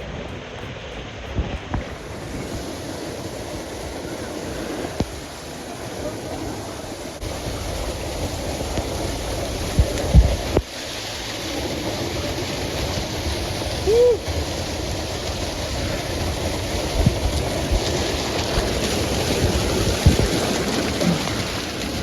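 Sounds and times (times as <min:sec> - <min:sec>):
waterfall pouring into pool: 0:00.0 - 0:22.0.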